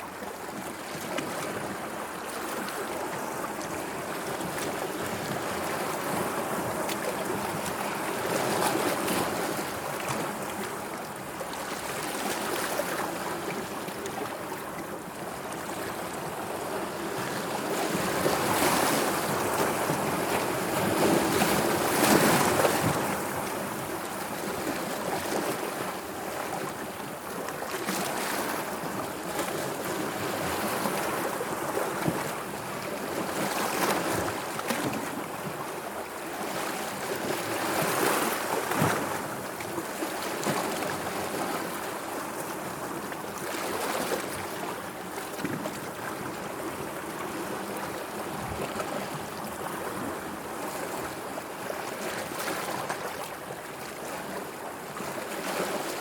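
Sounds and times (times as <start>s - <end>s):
sea waves washing and lapping: 0.0s - 56.0s.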